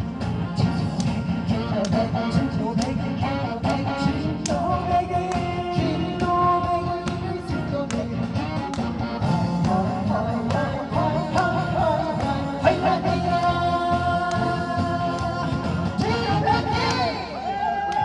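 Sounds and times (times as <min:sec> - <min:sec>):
band with steady beat: 0:00.0 - 0:18.0
person singing: 0:00.6 - 0:18.0.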